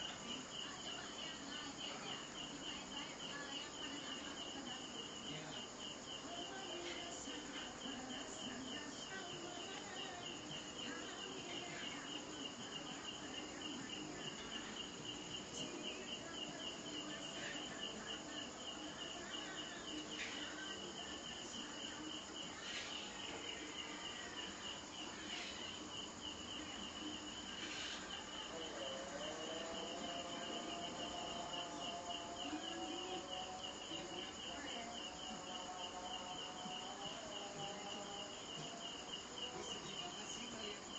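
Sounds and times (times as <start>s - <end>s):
cricket chirping trill: 0.0s - 40.9s
faint constant hiss: 0.0s - 40.9s.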